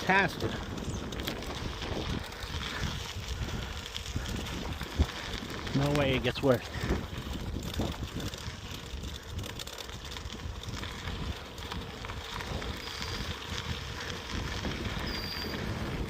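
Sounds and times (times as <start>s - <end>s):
small clicks and rattles: 0.0s - 14.3s
bicycle tyres rumbling on dirt: 0.0s - 16.0s
wind buffeting microphone: 0.0s - 16.0s.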